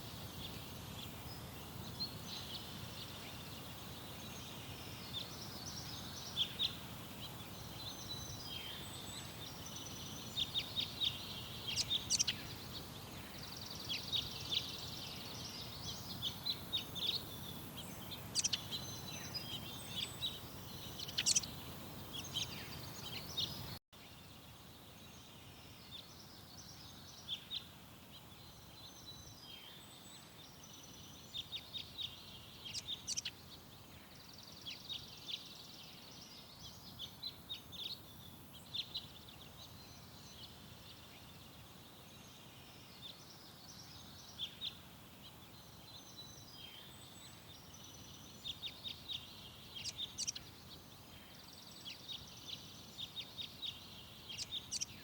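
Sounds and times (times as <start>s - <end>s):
faint outdoor background: 0.0s - 55.0s
small birds chirping: 0.0s - 55.0s.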